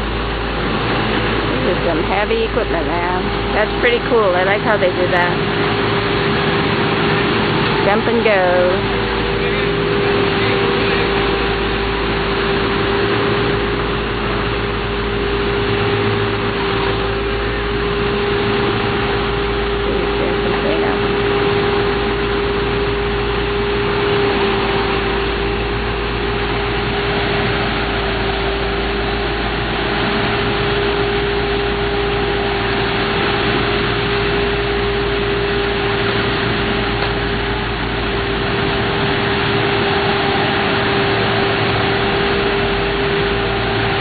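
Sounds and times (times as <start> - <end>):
diesel paving machine running: 0.0 - 44.0.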